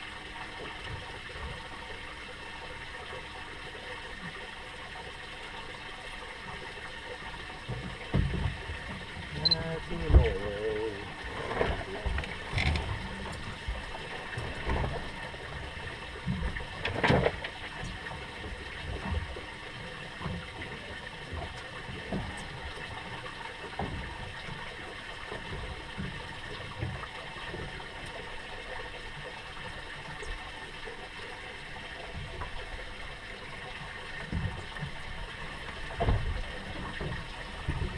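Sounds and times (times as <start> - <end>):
water lapping against boat hull: 0.0 - 37.9.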